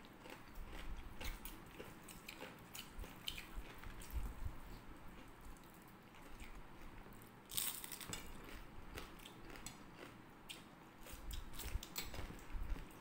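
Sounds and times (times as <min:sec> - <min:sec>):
chewing crispy fritters: 0:00.0 - 0:13.0.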